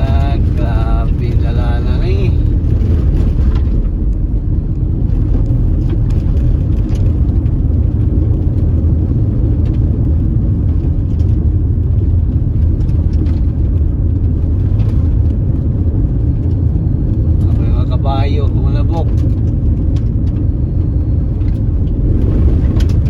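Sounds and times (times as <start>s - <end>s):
car driving interior rumble: 0.0s - 23.0s.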